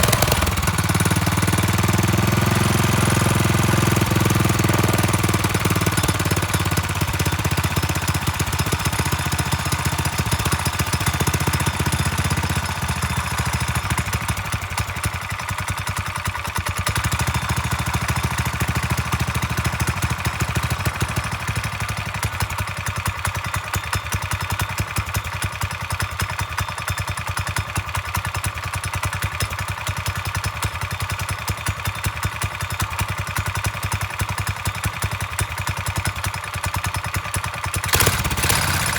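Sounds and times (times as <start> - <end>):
dirt bike engine running unevenly: 0.0 - 38.9.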